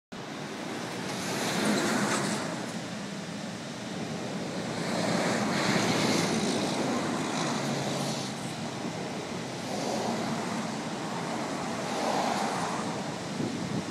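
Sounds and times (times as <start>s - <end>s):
jet engine roar: 0.2s - 13.9s
wind noise: 0.2s - 13.9s.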